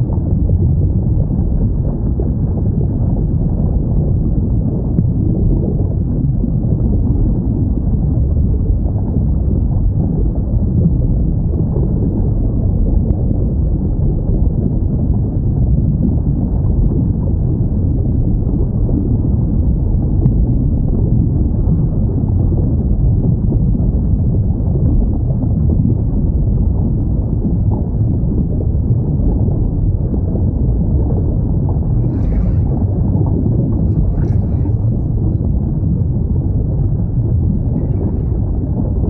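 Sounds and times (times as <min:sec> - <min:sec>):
underwater ocean rumble: 0:00.0 - 0:39.0.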